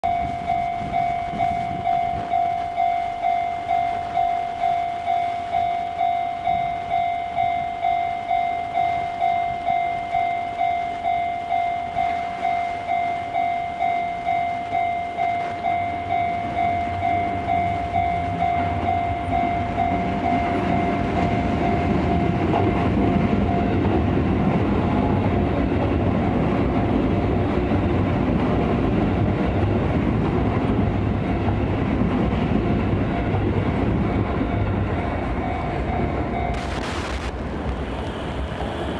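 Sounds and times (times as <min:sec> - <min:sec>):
level crossing warning bell: 0:00.0 - 0:27.9, 0:29.4 - 0:36.6
electric train passing: 0:00.0 - 0:38.9.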